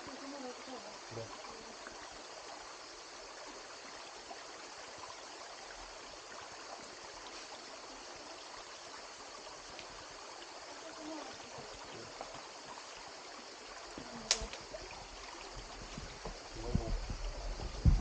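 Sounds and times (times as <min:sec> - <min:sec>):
stream water running over rocks: 0:00.0 - 0:18.0.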